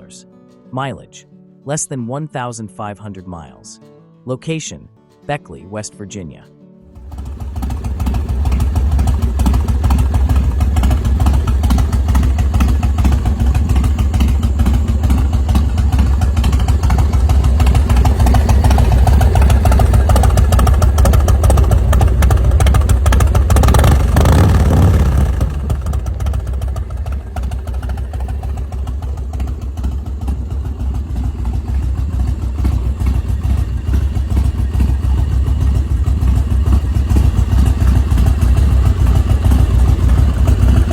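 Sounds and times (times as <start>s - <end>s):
motorcycle engine rumbling: 6.9s - 40.9s.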